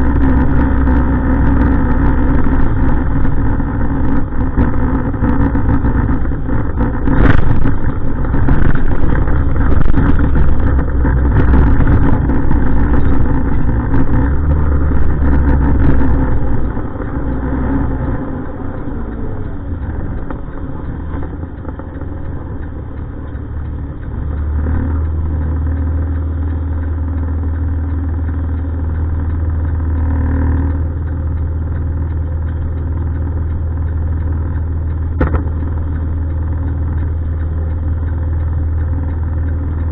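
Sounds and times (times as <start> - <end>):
diesel truck engine running: 0.0 - 39.9
engine knocks and rattles: 0.0 - 39.9.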